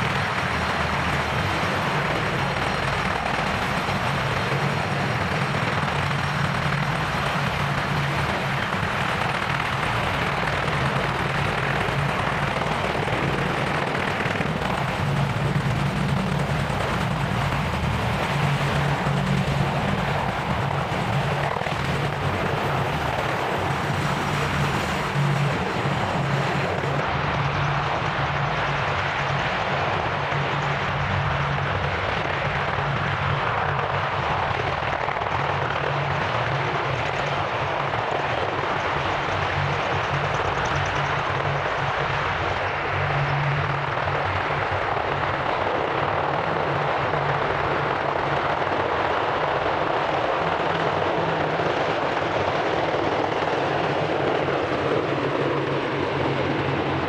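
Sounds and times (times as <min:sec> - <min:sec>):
helicopter engines: 0:00.0 - 0:57.0
helicopter rotor beating: 0:00.0 - 0:57.0.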